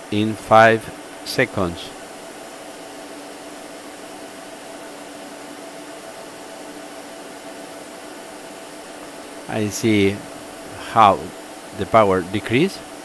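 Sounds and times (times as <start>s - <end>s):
cooling fan hiss: 0.0s - 13.0s
faint hum tone: 0.0s - 13.0s.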